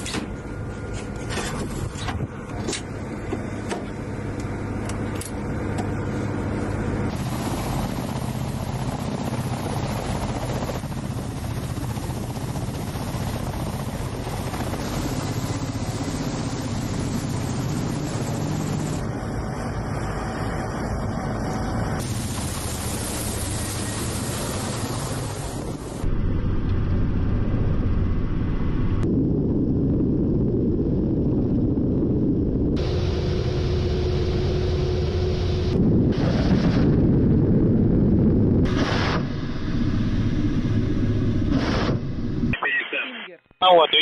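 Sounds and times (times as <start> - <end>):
helicopter engine and rotor drone: 0.0 - 44.0.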